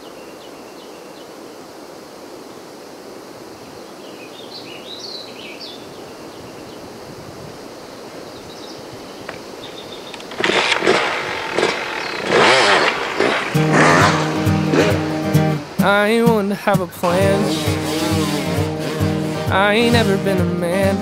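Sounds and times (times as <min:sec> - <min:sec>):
steady forest background rush: 0:00.0 - 0:20.4.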